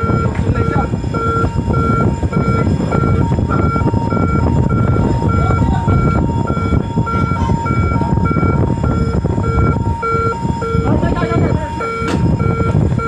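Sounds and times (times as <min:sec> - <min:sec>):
heavy low rumble: 0:00.0 - 0:13.0
two-tone electronic alarm: 0:00.0 - 0:13.0.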